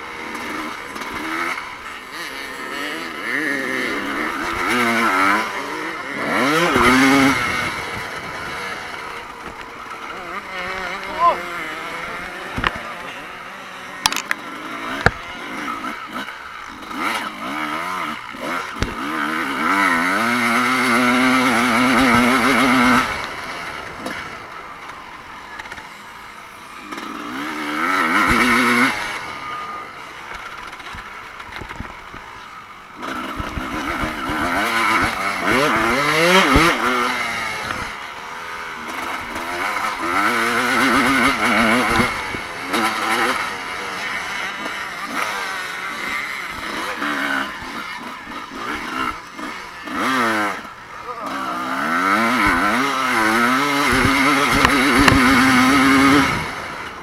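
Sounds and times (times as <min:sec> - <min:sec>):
motocross bikes revving: 0:00.0 - 0:57.0.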